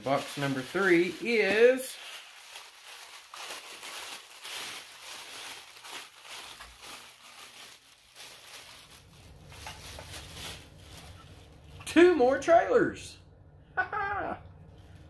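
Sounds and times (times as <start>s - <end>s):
wrapping rustling and crinkling: 0.0s - 12.0s, 14.6s - 15.0s.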